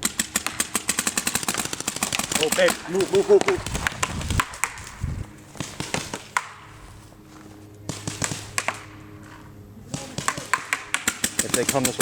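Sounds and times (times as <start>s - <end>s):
paintball markers firing: 0.0s - 6.7s, 7.8s - 9.1s, 9.9s - 12.0s
steady low hum: 0.0s - 12.0s.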